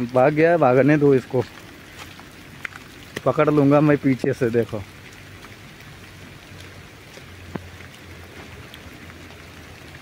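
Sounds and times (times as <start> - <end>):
rain on wet ground: 0.0 - 10.0.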